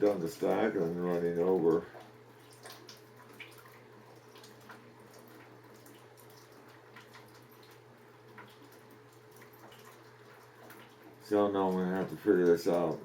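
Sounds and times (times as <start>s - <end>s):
low steady hum: 0.0s - 13.0s
water dripping into bucket: 0.0s - 13.0s.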